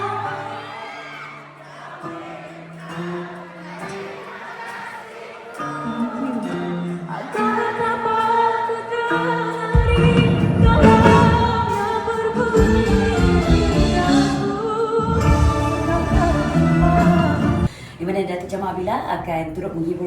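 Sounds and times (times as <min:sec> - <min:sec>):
traditional orchestra with singing: 0:00.0 - 0:17.7.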